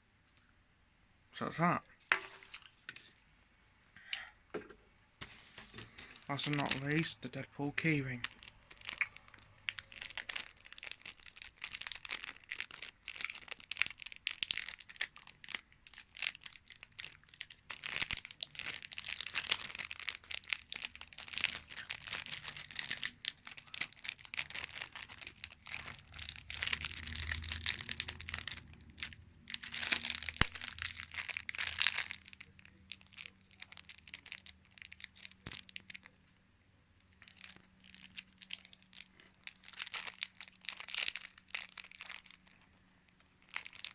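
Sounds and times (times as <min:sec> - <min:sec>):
packaging crinkling and tearing: 0:05.2 - 0:36.2, 0:37.1 - 0:43.9.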